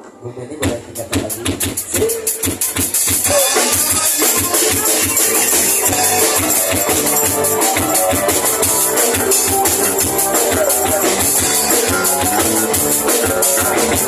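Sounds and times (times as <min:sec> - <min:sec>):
live band playing: 0:00.0 - 0:14.0
drum kit steady beat: 0:00.6 - 0:14.0.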